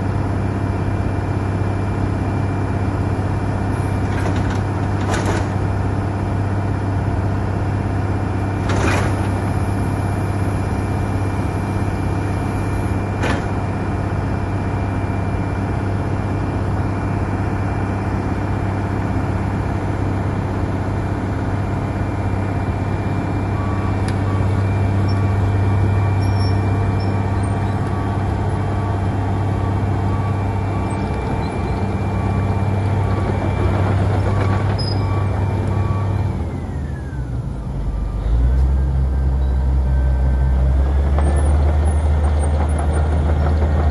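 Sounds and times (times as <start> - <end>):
diesel engine droning: 0.0 - 43.9.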